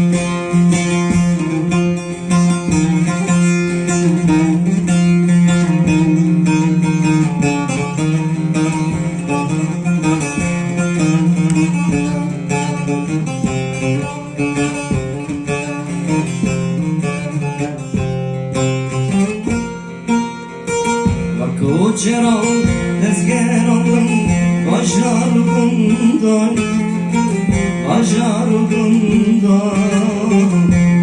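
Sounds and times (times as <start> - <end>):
plucked string instrument: 0.0 - 31.0.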